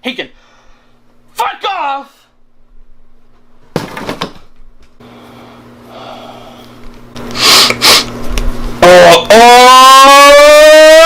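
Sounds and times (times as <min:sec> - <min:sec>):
faint steady hum: 0:00.0 - 0:09.4.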